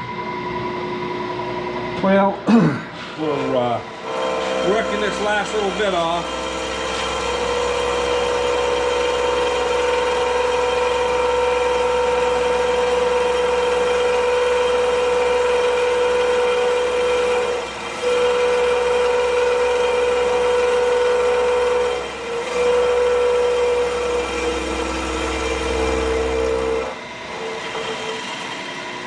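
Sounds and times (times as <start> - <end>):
machine tool cutting iron whine: 3.2 - 29.0.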